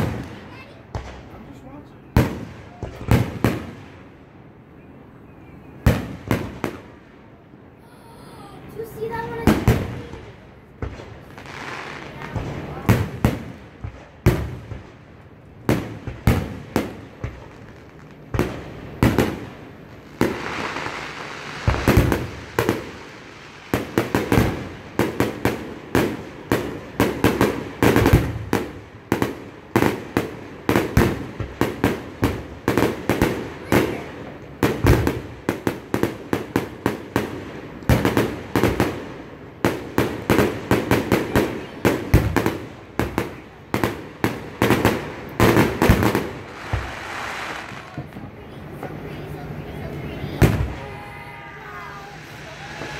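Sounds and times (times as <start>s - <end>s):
fireworks launching and bursting: 0.0s - 4.1s, 8.7s - 15.0s, 15.6s - 49.0s, 50.2s - 52.9s.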